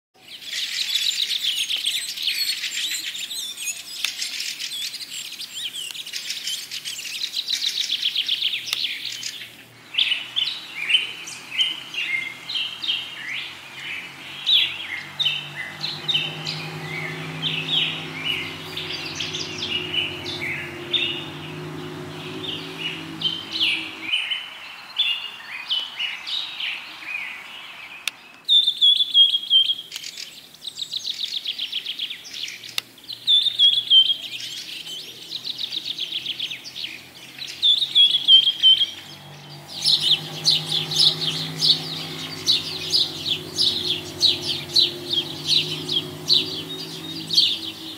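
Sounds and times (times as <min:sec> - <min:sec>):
birds chirping chorus: 0:00.2 - 0:47.9
rapid bird trills: 0:00.4 - 0:47.9.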